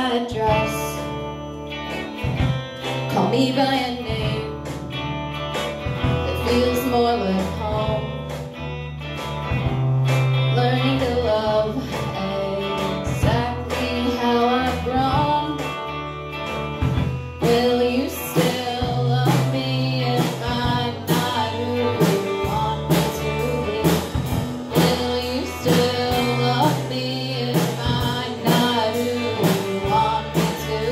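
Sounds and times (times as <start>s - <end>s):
drum kit: 0.0s - 30.9s
electric guitars: 0.0s - 30.9s.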